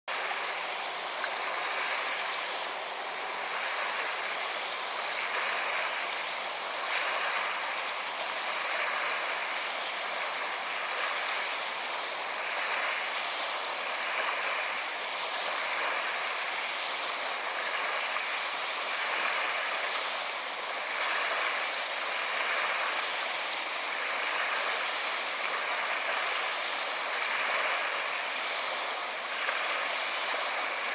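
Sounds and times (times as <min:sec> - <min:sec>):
river water splashing: 0:00.1 - 0:30.9.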